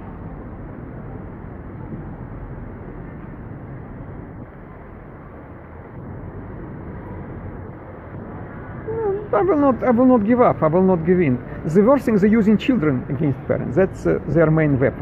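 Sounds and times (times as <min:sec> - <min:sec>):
city street low rumble: 0:00.0 - 0:15.0.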